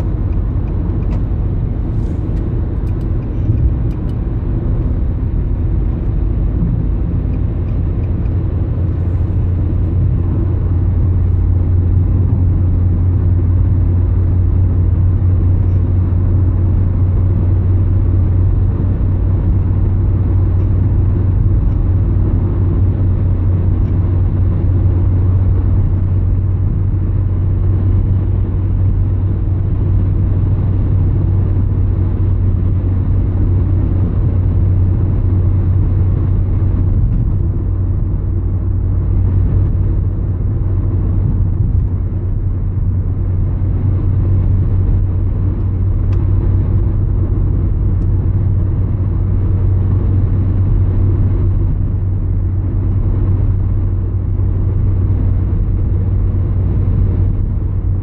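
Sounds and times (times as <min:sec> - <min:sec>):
continuous low rumble: 0:00.0 - 0:58.0.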